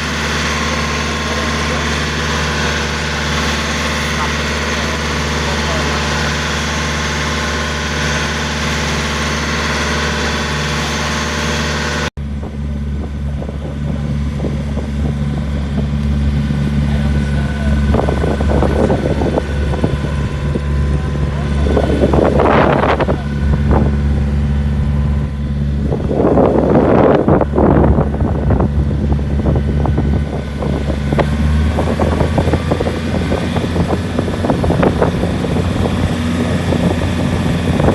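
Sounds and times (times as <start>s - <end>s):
boat engine droning: 0.0s - 37.9s.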